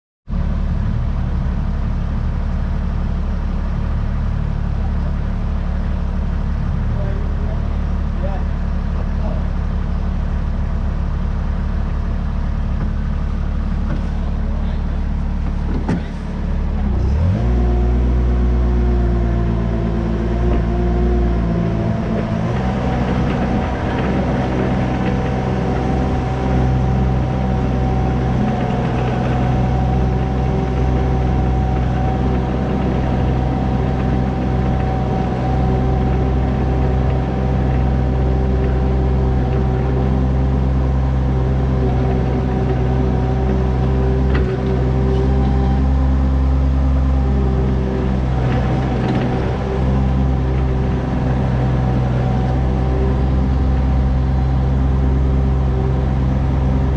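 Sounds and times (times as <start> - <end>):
excavator diesel engine running: 0.3 - 56.9
steady whine: 0.6 - 56.9.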